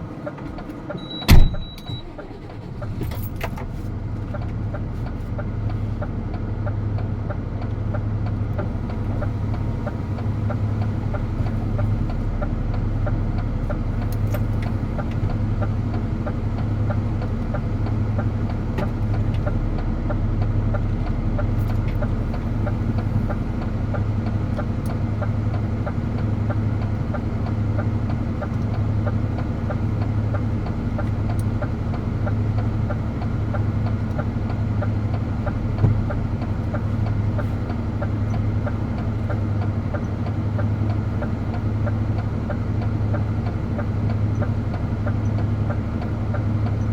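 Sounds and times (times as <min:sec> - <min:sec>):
truck diesel engine droning: 0:00.0 - 0:46.9.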